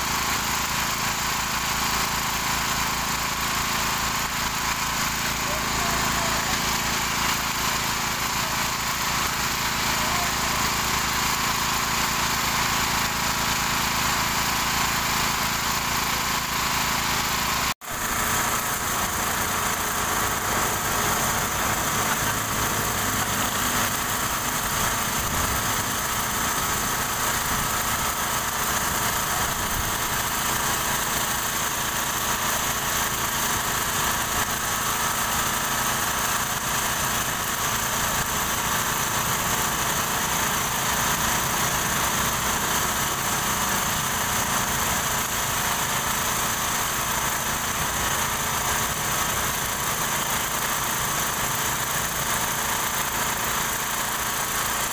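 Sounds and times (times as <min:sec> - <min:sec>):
engines idling: 0:00.1 - 0:54.8.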